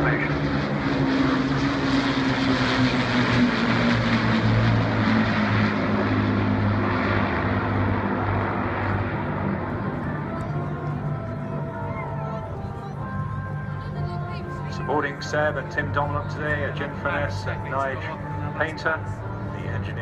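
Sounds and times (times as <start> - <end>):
propeller plane engines droning: 0.0 - 20.0.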